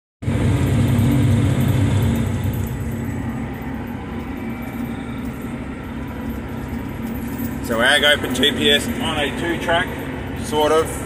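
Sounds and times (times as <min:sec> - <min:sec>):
tractor diesel engine running: 0:00.2 - 0:11.0.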